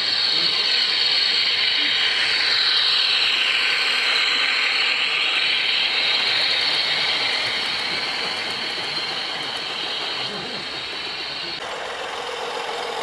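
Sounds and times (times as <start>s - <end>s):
model train whine and hiss: 0.0s - 13.0s.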